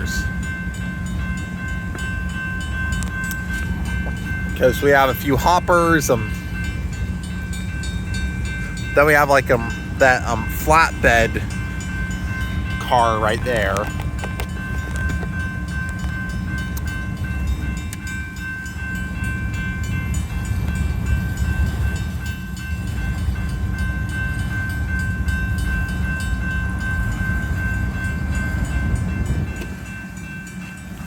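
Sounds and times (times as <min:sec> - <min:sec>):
crossing warning bell ringing: 0:00.0 - 0:31.0
train wheels rumbling and clanking: 0:00.0 - 0:31.0.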